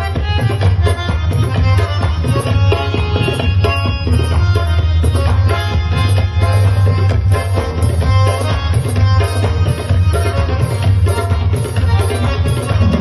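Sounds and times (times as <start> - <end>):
hand-drum strokes: 0.0 - 13.0
loud music over sound system: 0.0 - 13.0.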